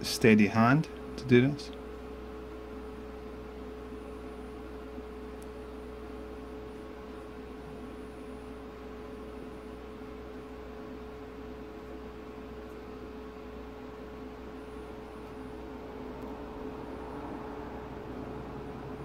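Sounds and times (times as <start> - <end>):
electric fan motor humming: 0.0 - 19.0.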